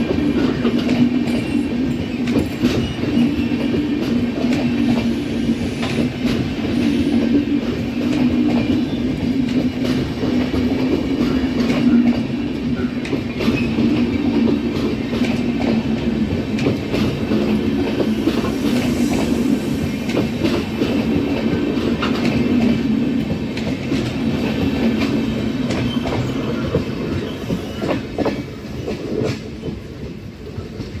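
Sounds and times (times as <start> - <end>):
train wheels clicking over rail joints: 0.0 - 31.0.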